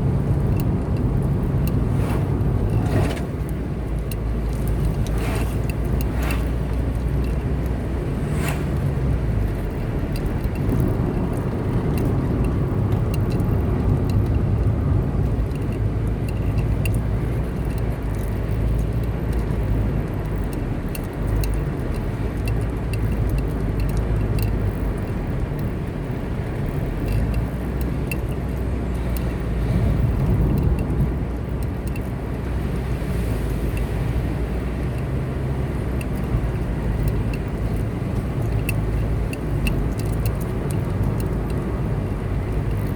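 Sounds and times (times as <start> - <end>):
car engine and tyre rumble: 0.0 - 42.9
faint ticks: 0.3 - 42.9.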